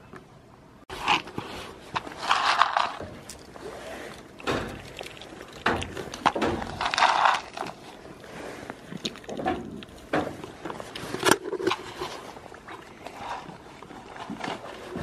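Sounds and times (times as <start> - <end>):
close rustling and rubbing: 0.9 - 15.0.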